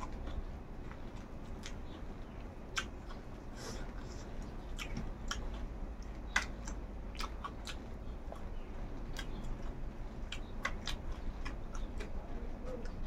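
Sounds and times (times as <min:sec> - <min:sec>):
person chewing with wet clicks: 0:00.0 - 0:13.0.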